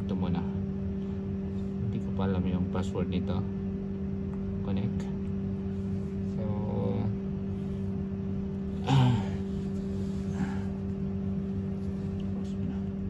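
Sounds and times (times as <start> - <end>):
appliance humming: 0.0 - 13.0.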